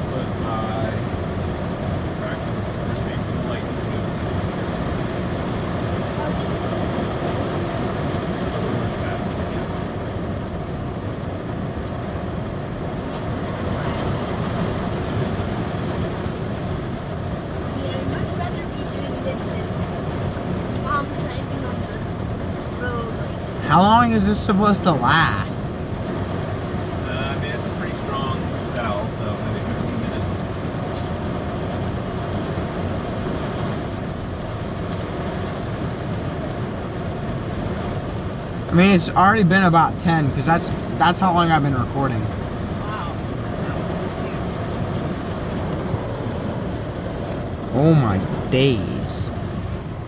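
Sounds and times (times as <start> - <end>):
heavy rain drumming on car roof: 0.0 - 50.0.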